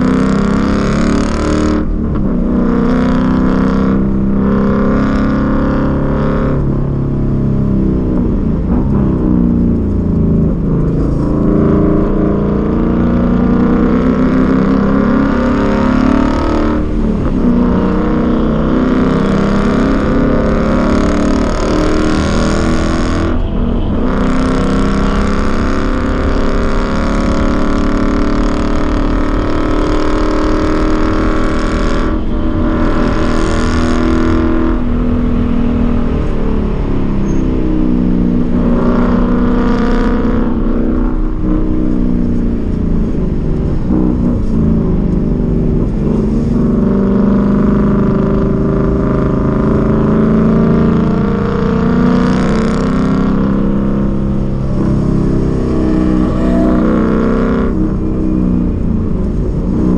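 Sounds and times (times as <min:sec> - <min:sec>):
car engine running hard: 0:00.0 - 0:59.9.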